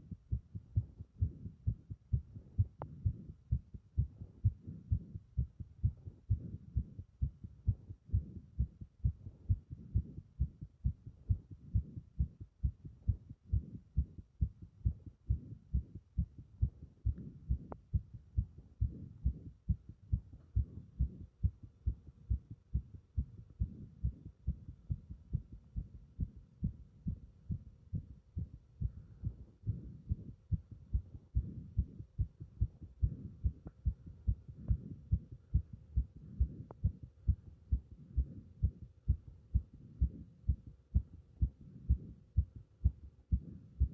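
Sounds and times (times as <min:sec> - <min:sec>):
fast heartbeat thumps: 0:00.0 - 0:43.9.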